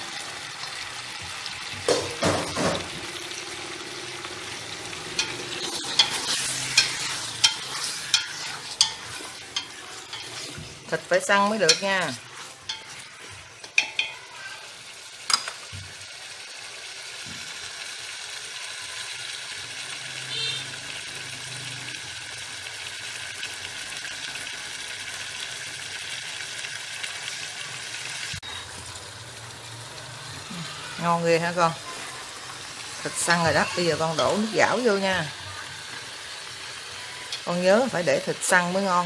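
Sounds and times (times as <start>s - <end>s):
meat sizzling in a pot: 0.0s - 39.0s.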